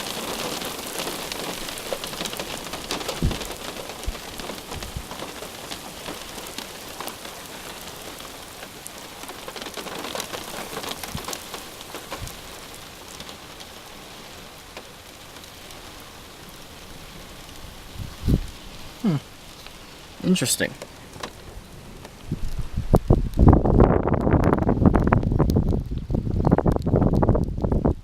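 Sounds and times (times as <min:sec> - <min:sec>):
rain patter: 0:00.0 - 0:28.0.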